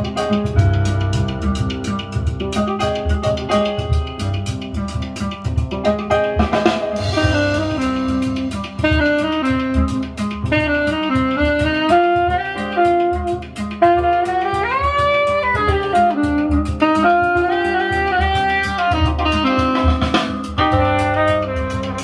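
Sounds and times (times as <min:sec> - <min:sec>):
guitar accompaniment: 0:00.0 - 0:22.0
saxophone: 0:00.0 - 0:22.0.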